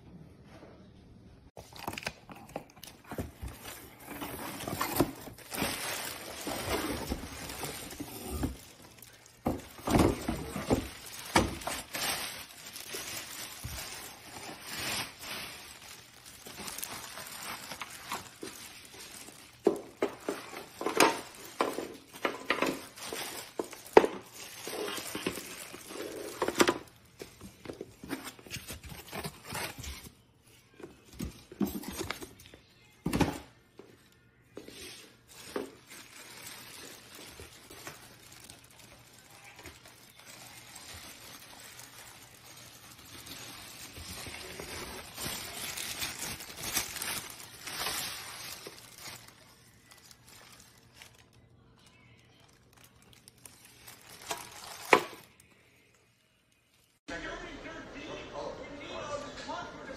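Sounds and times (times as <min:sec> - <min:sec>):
cardboard and plastic rustling: 0:01.5 - 0:56.0.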